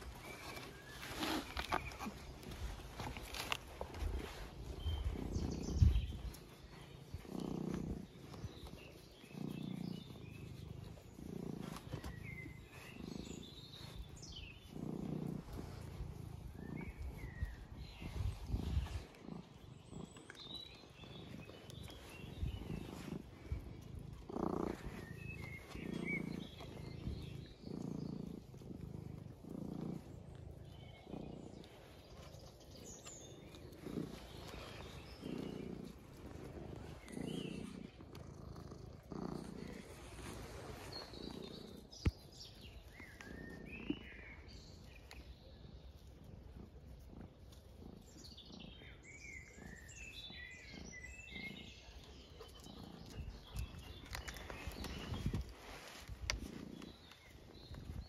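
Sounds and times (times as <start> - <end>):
cat purring: 0.0 - 58.0
faint birds chirping: 0.0 - 58.0.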